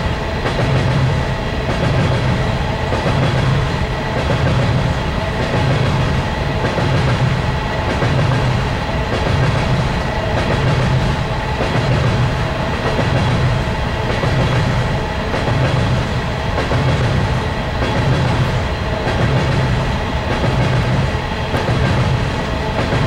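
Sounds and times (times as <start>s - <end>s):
freight cars rolling on rails: 0.0s - 23.0s
train wheels clickety-clack: 0.0s - 23.0s.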